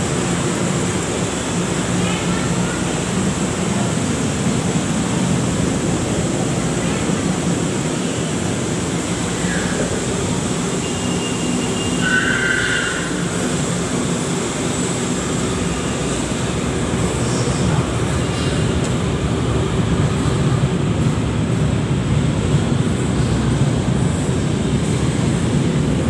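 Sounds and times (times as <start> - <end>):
train rolling rumble: 0.0 - 26.0.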